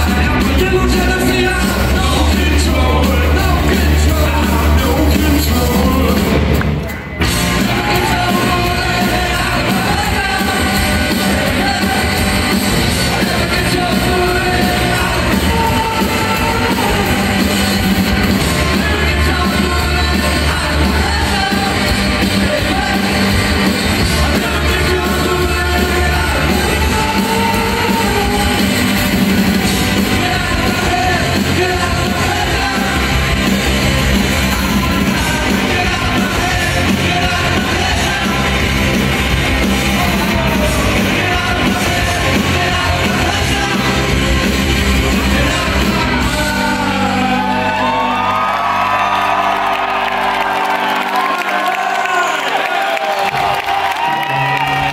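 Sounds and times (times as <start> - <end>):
man singing lead vocal: 0.0 - 6.6, 7.6 - 49.2
live rock band playing: 0.0 - 54.9.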